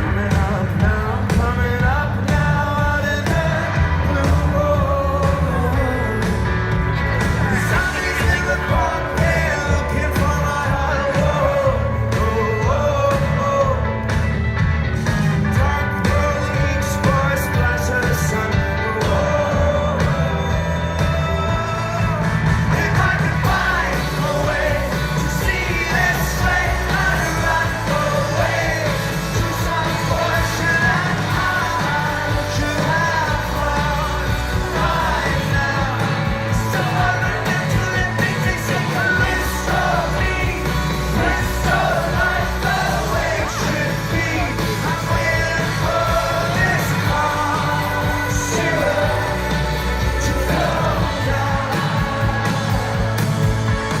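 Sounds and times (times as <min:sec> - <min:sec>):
indie rock band playing: 0:00.0 - 0:54.0.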